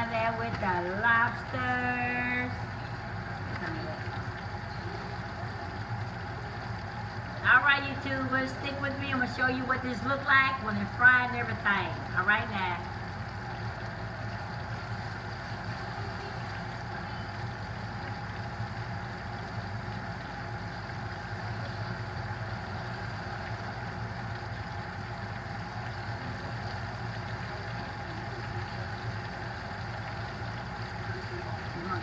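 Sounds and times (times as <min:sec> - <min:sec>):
deep fryer low rumble: 0:00.0 - 0:32.0
oil frying hiss: 0:00.0 - 0:32.0.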